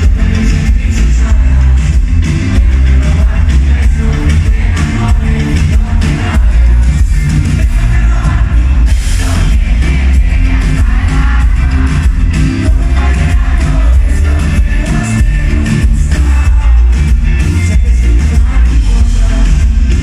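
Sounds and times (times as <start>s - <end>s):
live pop band playing: 0.0s - 20.0s
male lead vocal: 0.0s - 20.0s.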